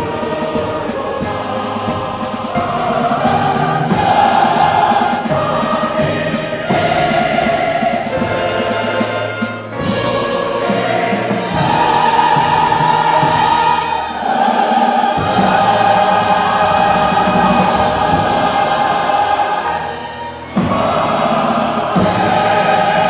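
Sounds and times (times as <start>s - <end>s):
church choir singing chords: 0.0s - 23.0s.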